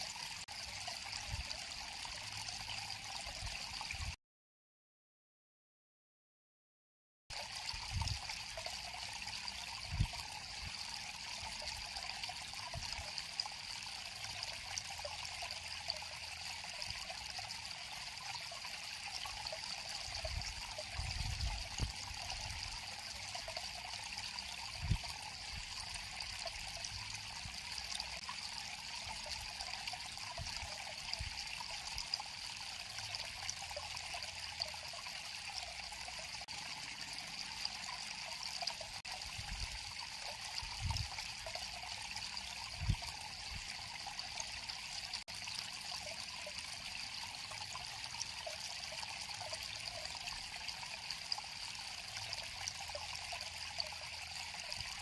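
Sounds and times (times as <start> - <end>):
river water flowing: 0.0 - 3.9, 7.4 - 55.0.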